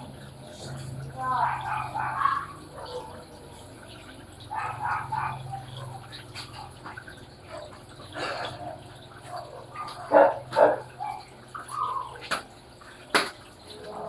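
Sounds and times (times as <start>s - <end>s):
water running into washing machine: 0.0s - 14.0s.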